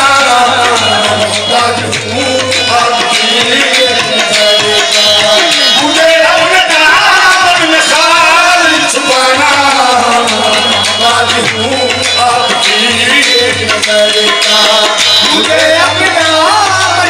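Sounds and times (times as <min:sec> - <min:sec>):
tabla drumming: 0:00.0 - 0:17.0
voices singing wavering melodies: 0:00.0 - 0:17.0.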